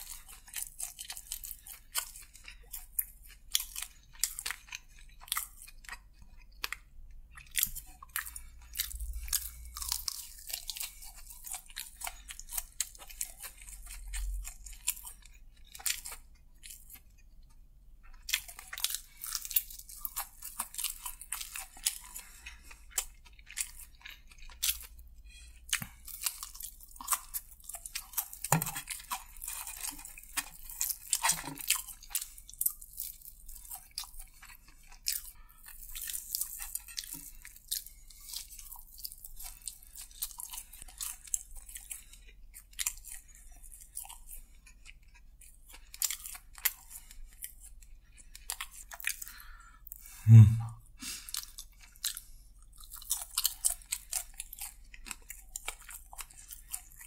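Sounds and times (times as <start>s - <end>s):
crunching fried chicken: 0.0s - 57.0s.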